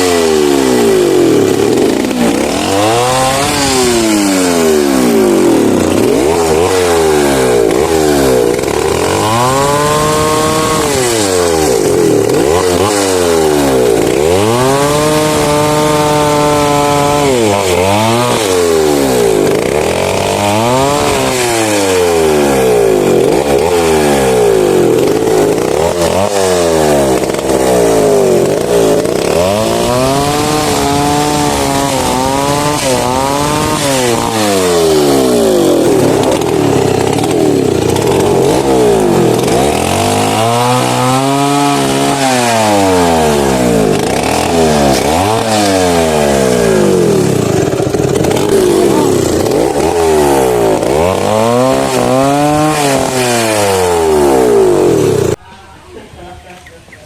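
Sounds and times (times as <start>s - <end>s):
chainsaw cutting wood: 0.0s - 55.4s.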